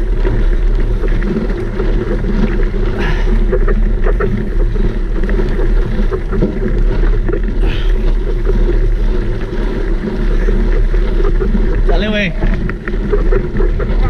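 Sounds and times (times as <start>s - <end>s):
bike rattling and knocking: 0.0s - 14.0s
wind buffeting microphone: 0.0s - 14.0s.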